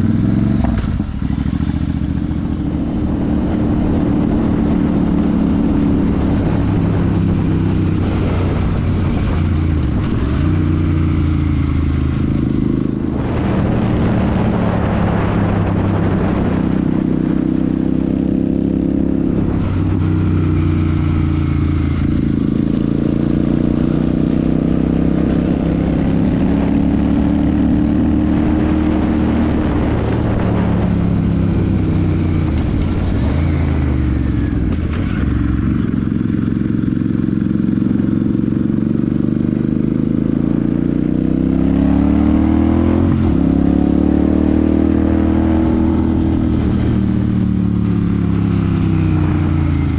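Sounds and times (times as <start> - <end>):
motorcycle engine and exhaust: 0.0 - 49.9.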